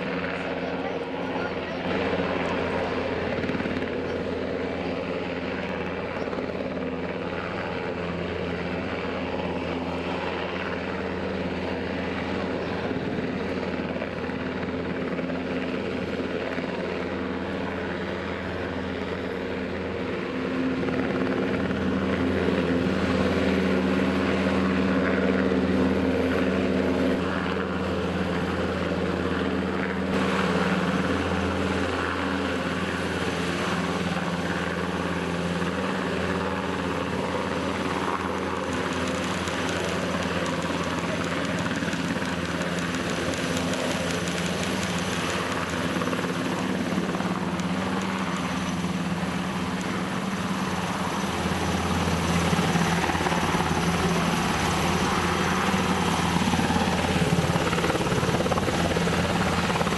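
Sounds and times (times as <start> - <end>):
helicopters hovering: 0.0 - 59.9.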